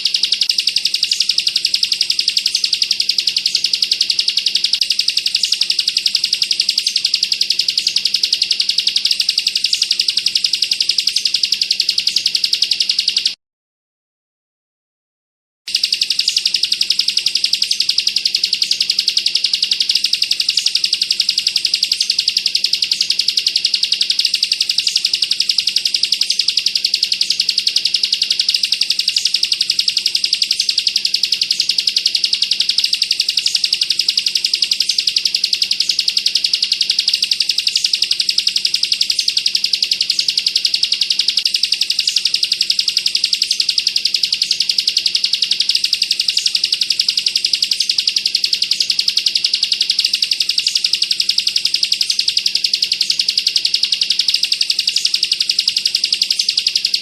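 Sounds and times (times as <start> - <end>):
bird singing high-pitched trill: 0.0 - 13.4, 15.7 - 57.0.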